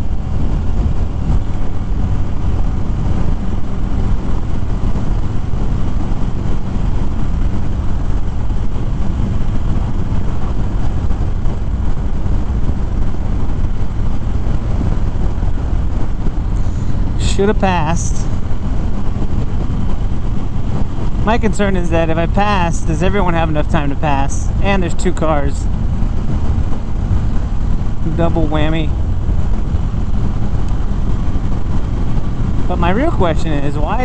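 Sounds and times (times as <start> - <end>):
motorcycle engine running: 0.0 - 34.0
wind rushing across microphone: 0.0 - 34.0.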